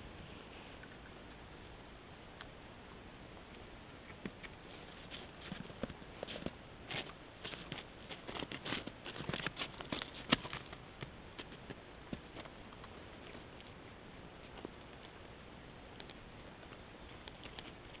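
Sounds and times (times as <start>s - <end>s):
elk crunching and clicking: 3.5s - 18.0s.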